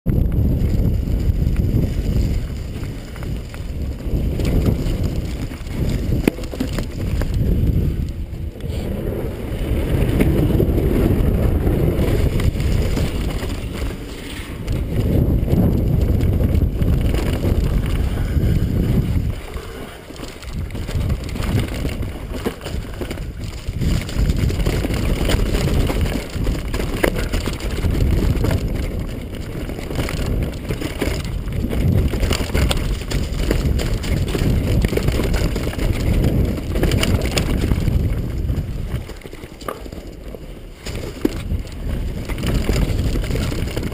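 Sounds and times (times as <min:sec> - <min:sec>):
wind rushing over microphone: 0:00.0 - 0:43.9
bike rattling and knocking: 0:00.1 - 0:43.9
bike tyres rolling on dirt: 0:00.1 - 0:43.9.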